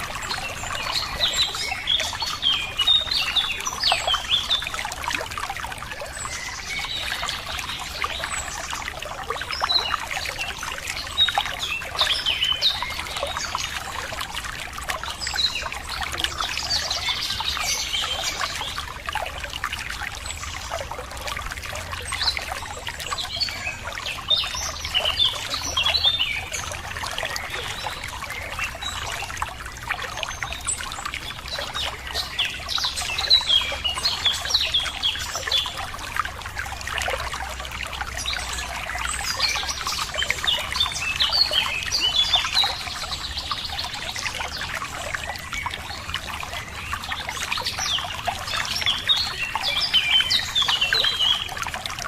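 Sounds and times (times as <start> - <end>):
water trickling over rocks: 0.0 - 52.0.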